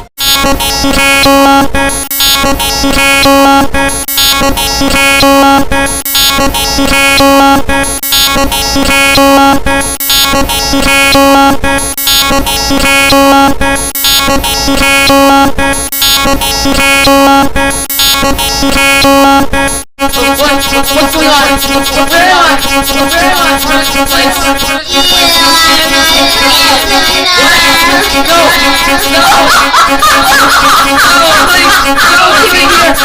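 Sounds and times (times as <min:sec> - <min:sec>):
electronic synthesizer music: 0:00.0 - 0:33.0.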